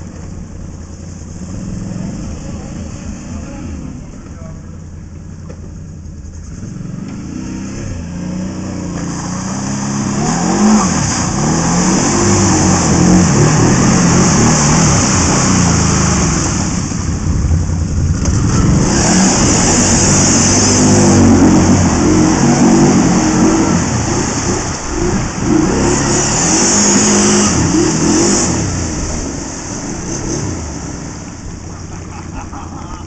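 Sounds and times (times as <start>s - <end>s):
quad bike engine revving: 1.3s - 4.8s, 6.3s - 33.0s.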